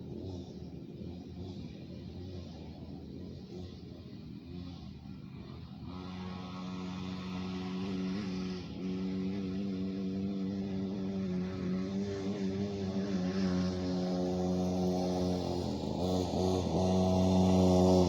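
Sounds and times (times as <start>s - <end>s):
small dirt bike engine running: 0.0s - 18.0s.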